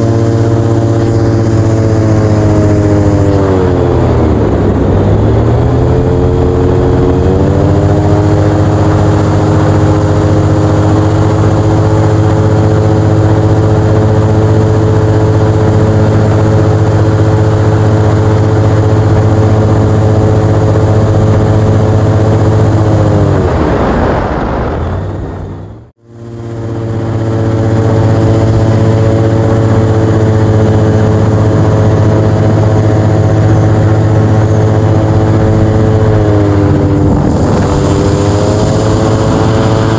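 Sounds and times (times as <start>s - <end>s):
airboat engine and propeller: 0.0s - 39.9s.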